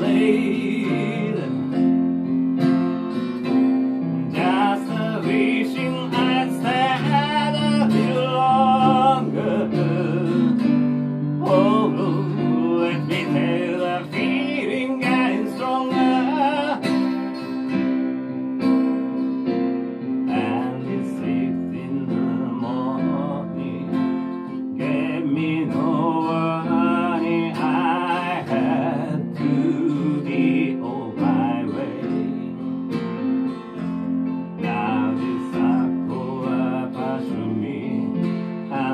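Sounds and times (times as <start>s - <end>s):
person singing: 0.0s - 2.1s, 4.2s - 17.6s, 20.2s - 32.8s, 33.8s - 38.9s
acoustic guitar strummed: 0.0s - 38.9s
electric keyboard chords: 0.0s - 38.9s.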